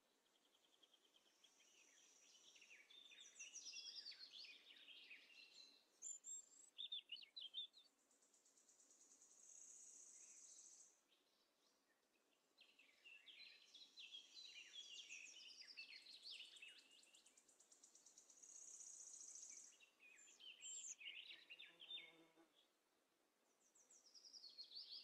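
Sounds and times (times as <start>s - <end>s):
faint birdsong chirps: 0.0s - 22.8s, 23.4s - 25.0s.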